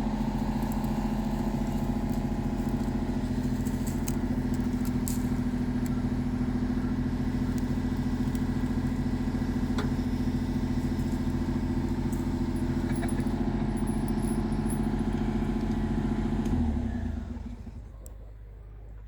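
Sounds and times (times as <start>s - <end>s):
small engine idling and shutting off: 0.0s - 19.0s.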